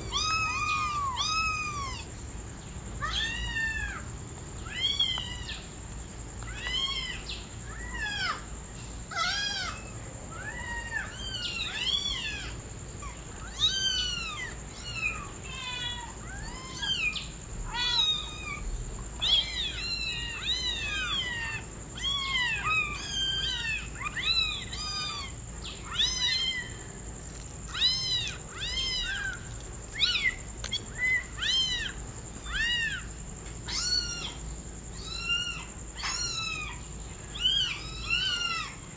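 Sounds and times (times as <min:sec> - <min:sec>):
kittens meowing: 0:00.0 - 0:02.1, 0:03.0 - 0:04.0, 0:04.7 - 0:05.6, 0:06.5 - 0:08.4, 0:09.1 - 0:33.1, 0:33.7 - 0:34.4, 0:35.0 - 0:38.8.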